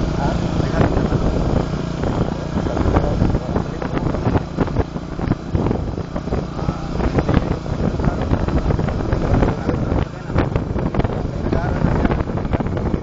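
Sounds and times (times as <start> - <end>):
motorcycle engine running: 0.0 - 13.0
wind on microphone: 0.0 - 13.0.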